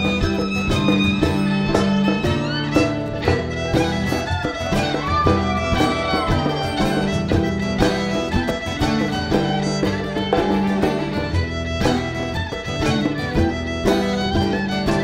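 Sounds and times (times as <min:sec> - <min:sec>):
acoustic guitar and mandolin: 0:00.0 - 0:15.0
fiddle playing a jig: 0:00.0 - 0:15.0.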